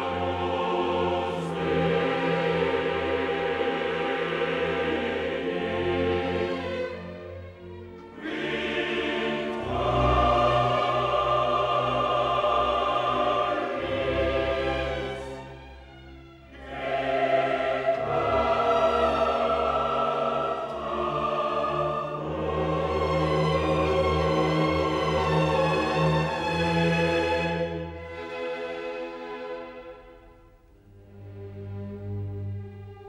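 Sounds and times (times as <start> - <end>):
choir singing held chords: 0.0 - 30.3.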